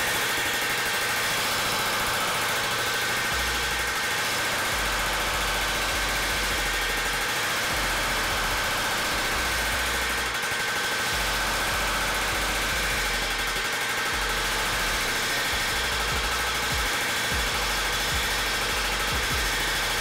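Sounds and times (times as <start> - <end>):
power hammer hammering sheet metal: 0.0 - 20.0.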